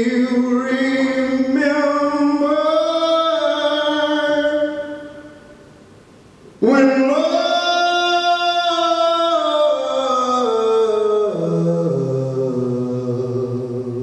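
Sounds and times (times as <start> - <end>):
man singing unaccompanied: 0.0 - 5.4, 6.6 - 14.0.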